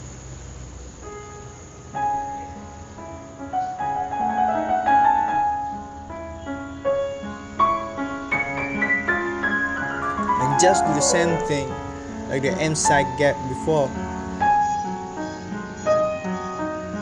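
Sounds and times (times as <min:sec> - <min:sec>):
piano music: 0:01.1 - 0:17.0.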